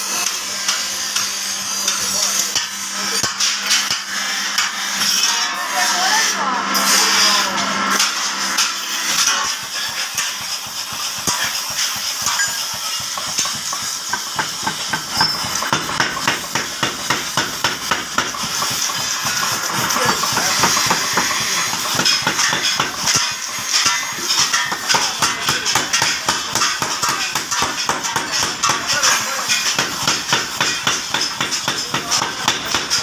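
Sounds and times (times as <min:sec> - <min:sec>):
power hammer striking metal: 0:00.0 - 0:33.0.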